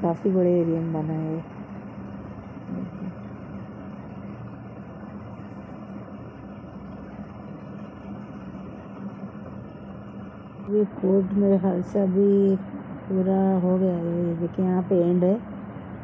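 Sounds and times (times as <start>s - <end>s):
faint low engine hum: 0.0s - 16.0s.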